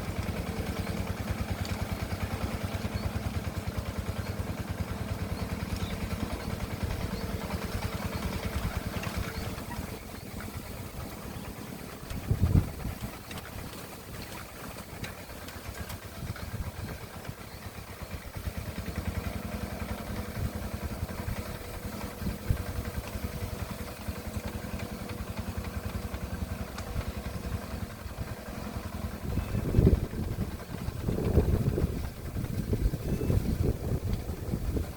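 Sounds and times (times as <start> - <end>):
hand tractor engine running: 0.0 - 34.9.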